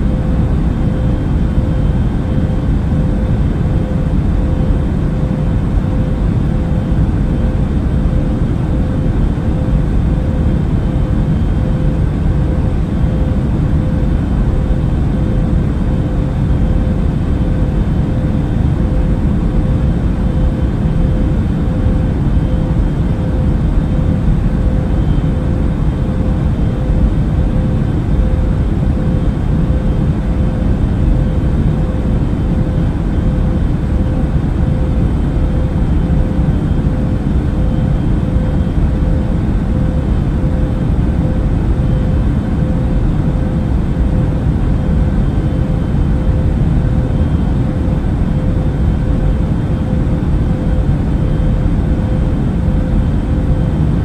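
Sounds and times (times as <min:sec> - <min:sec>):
airliner cabin engine rush: 0:00.0 - 0:54.0
constant hum: 0:00.0 - 0:54.0.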